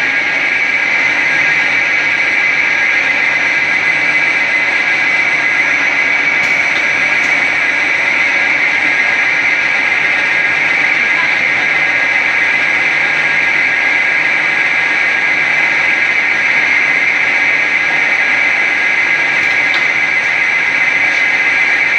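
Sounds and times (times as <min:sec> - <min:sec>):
machine running with high whine: 0:00.0 - 0:21.9.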